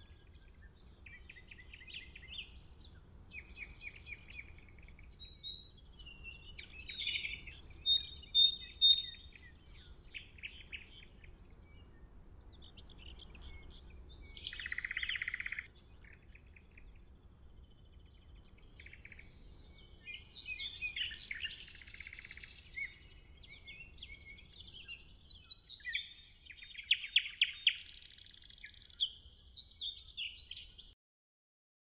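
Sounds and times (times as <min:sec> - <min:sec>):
songbirds singing and chirping: 0:00.0 - 0:31.0.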